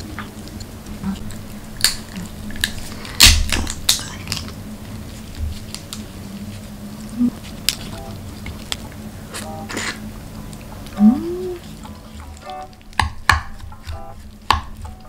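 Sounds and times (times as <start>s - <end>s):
crab shell cracking: 0.0s - 6.2s, 7.4s - 14.9s.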